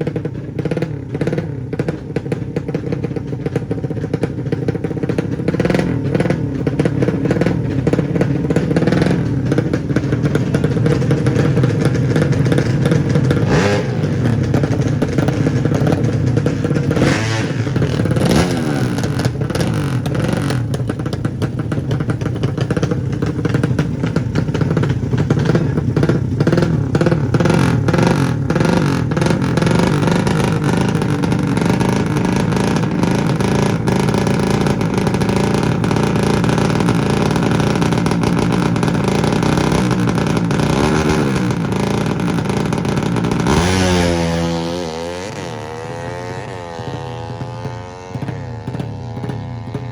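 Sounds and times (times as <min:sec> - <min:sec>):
motorcycle engines revving: 0:00.0 - 0:49.9.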